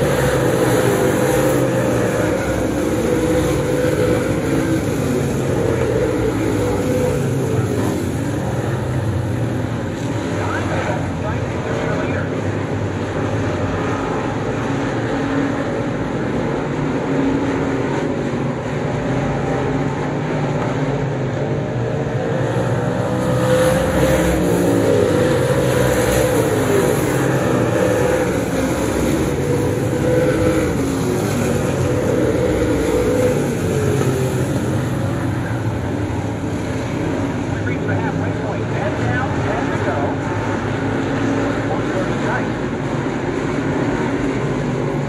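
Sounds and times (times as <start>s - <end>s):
race car engines running hard: 0.0s - 45.0s.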